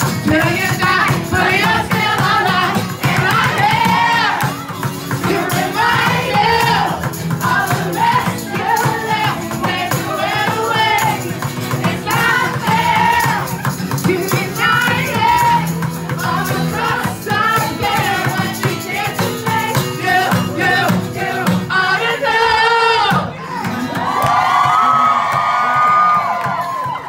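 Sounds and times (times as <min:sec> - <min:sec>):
woman singing: 0:00.0 - 0:04.5, 0:05.2 - 0:23.2
rattling percussion: 0:00.0 - 0:21.7
acoustic guitar: 0:00.0 - 0:27.0.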